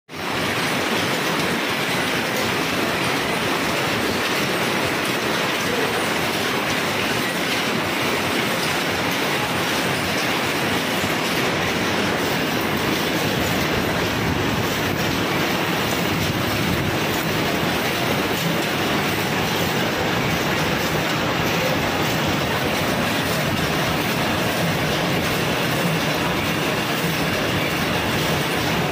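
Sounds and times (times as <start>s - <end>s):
machine mechanical clatter: 0.2s - 28.9s.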